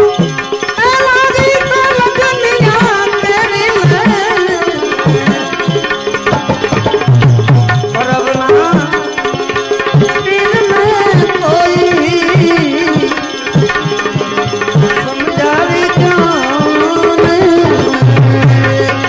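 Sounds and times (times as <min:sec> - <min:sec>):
hand drum strokes: 0:02.5 - 0:19.0.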